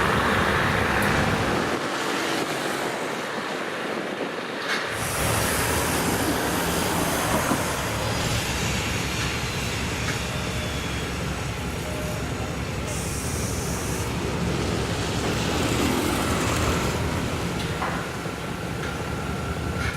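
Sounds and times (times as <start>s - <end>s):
diesel railcar engine drone: 0.0s - 19.9s
rail noise: 0.0s - 19.9s.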